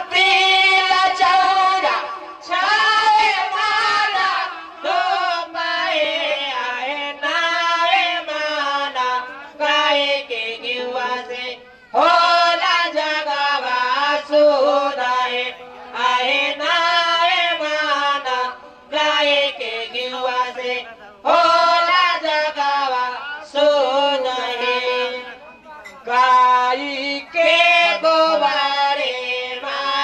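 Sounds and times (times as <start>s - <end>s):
person singing into a microphone: 0.0s - 30.0s.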